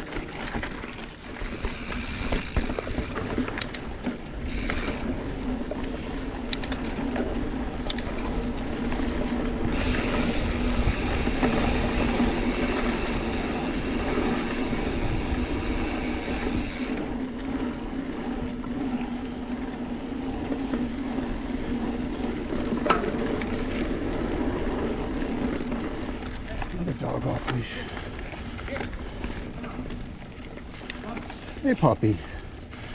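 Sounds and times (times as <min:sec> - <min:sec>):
bike tires rolling and rattling: 0:00.0 - 0:32.9
wind noise: 0:00.0 - 0:32.9.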